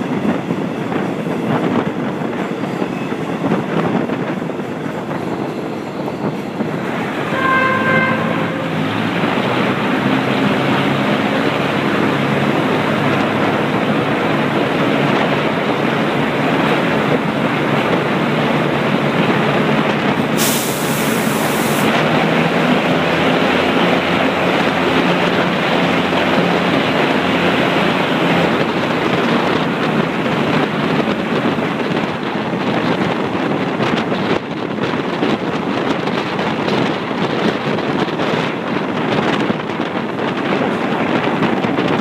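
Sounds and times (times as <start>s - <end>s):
train running noise: 0.0s - 42.0s
wind rushing over microphone: 0.0s - 42.0s.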